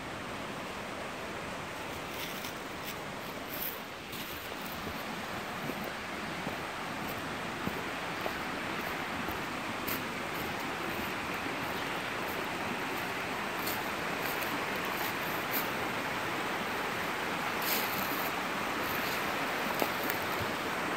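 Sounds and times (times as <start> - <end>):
stream water rushing: 0.0 - 20.9
footsteps on stones and gravel: 1.9 - 15.8, 17.5 - 20.6.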